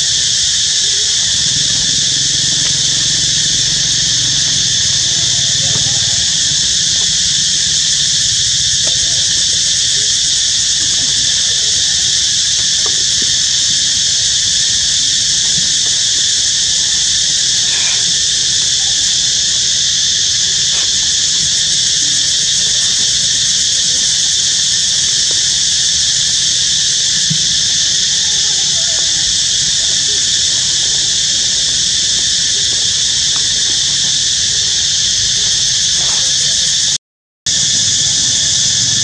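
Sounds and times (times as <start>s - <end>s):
high-pitched insect chorus buzzing: 0.0s - 39.0s.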